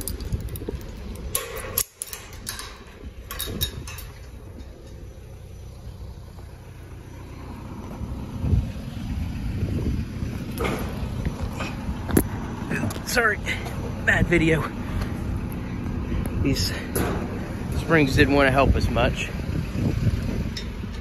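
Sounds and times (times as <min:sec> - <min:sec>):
metal clanks: 0:00.0 - 0:06.8, 0:10.3 - 0:21.0
low rumble: 0:00.0 - 0:21.0.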